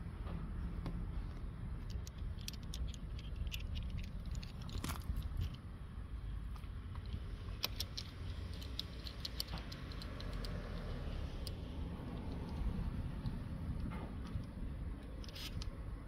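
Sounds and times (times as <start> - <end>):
steady low rumble: 0.0 - 16.0
small metallic clicks and taps: 1.8 - 5.6, 6.5 - 15.8.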